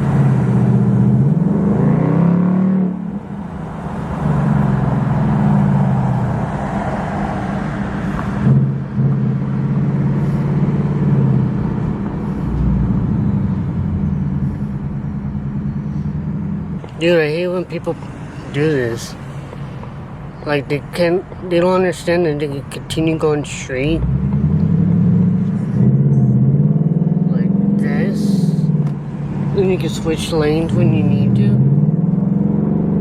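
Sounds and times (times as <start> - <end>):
car engine revving while driving: 0.0 - 17.2, 23.0 - 33.0.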